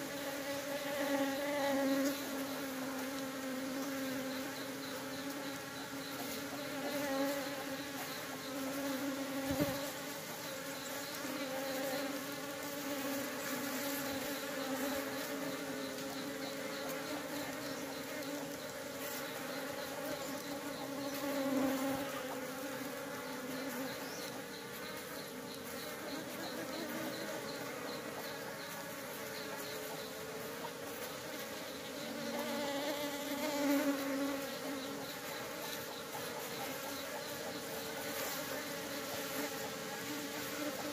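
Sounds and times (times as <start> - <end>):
honeybees buzzing: 0.0 - 40.9.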